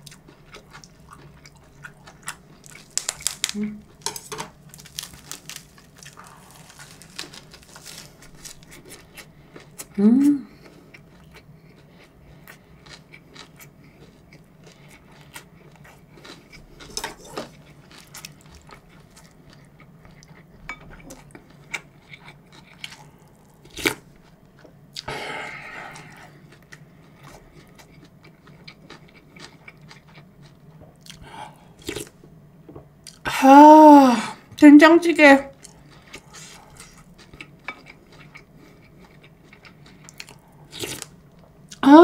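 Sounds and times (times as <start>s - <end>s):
soft chewing: 0.0s - 33.2s, 35.5s - 41.8s.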